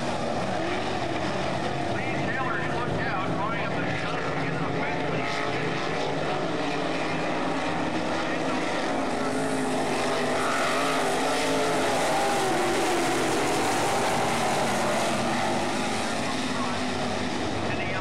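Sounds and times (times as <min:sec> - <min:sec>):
race car engines circling: 0:00.0 - 0:18.0.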